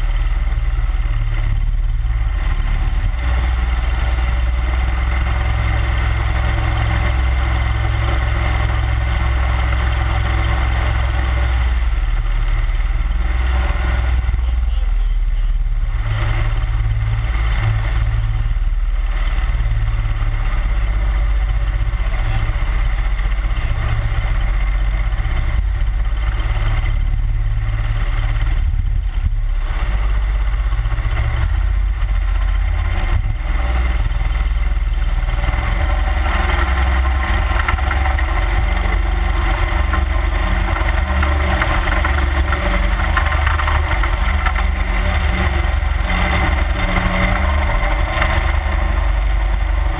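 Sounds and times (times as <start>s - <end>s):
boat motor droning: 0.0s - 49.9s.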